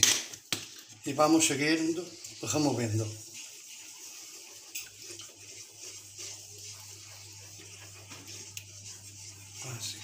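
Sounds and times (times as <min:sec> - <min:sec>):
sauce simmering in a pan: 0:00.2 - 0:10.0.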